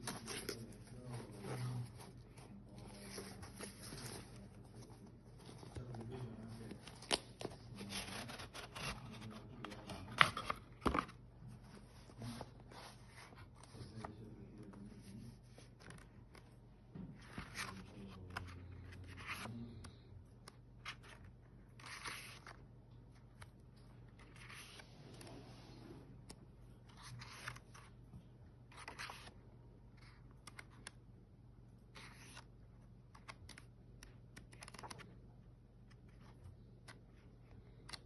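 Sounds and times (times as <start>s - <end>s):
book pages rustling: 0.0s - 16.6s, 17.2s - 25.6s, 26.2s - 31.0s, 31.8s - 35.1s.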